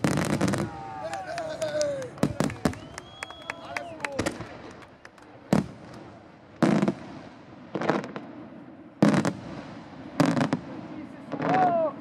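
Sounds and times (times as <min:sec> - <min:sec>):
smaller firework cracks: 0:00.0 - 0:12.0.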